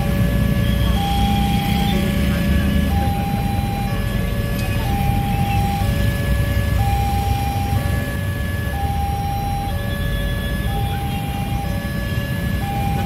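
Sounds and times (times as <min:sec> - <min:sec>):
level crossing two-tone alarm: 0:00.0 - 0:13.0
road traffic rumble: 0:00.0 - 0:13.0.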